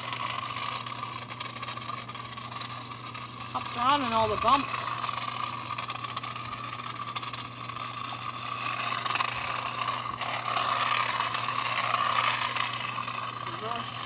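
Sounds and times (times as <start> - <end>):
plastic toy car rattling: 0.0 - 14.0
toy car electric motor whining: 0.0 - 14.0.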